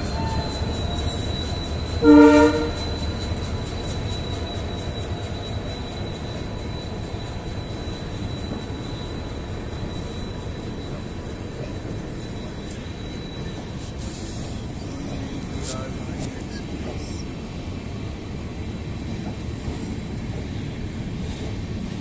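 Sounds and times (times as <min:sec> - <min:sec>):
train coaches rumbling on track: 0:00.0 - 0:22.0.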